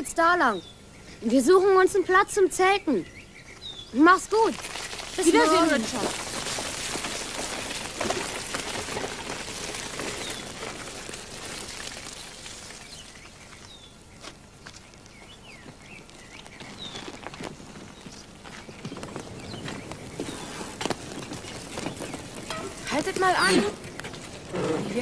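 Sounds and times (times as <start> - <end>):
birds chirping: 0.0 - 25.0
bicycle tyres on dirt path: 3.6 - 25.0.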